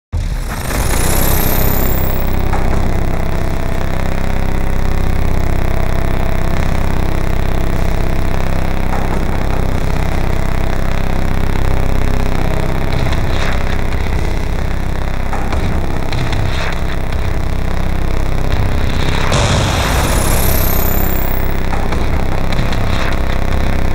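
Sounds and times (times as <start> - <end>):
grinding mechanical drone: 0.2 - 23.9
sharp crackling hits: 0.2 - 23.9.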